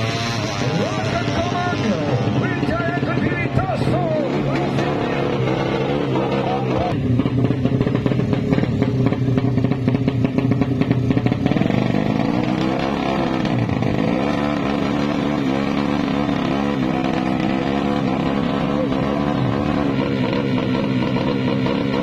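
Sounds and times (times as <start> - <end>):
motorbike engine revving: 0.0 - 22.0.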